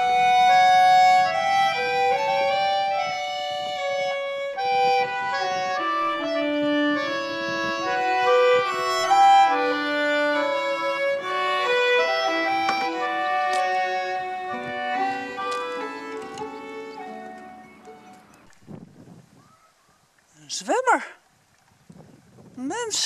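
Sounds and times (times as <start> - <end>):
fiddle melody: 0.0 - 18.6.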